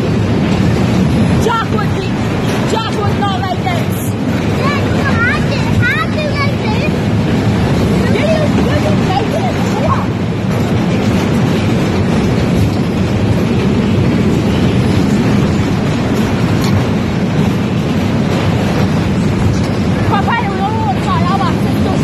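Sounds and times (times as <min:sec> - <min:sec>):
ride wheels rumbling on rails: 0:00.0 - 0:22.0.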